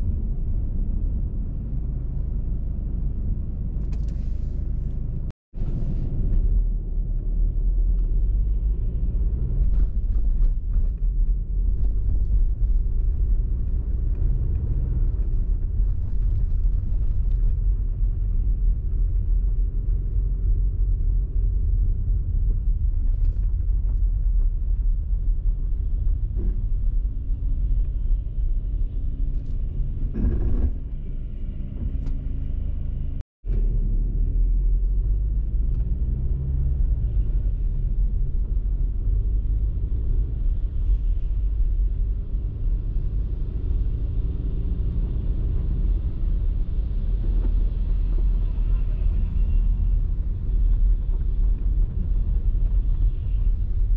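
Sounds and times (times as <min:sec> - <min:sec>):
car driving rumble: 0:00.0 - 0:53.9.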